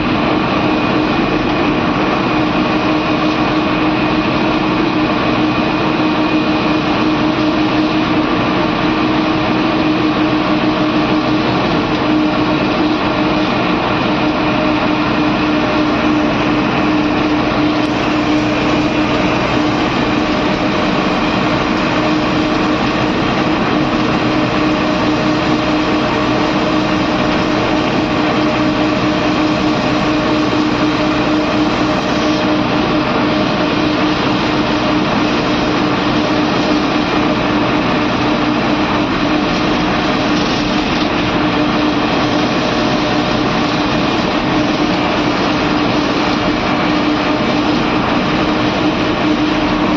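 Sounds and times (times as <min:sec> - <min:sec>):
bus engine drone: 0:00.0 - 0:49.9
steady hum: 0:00.0 - 0:49.9.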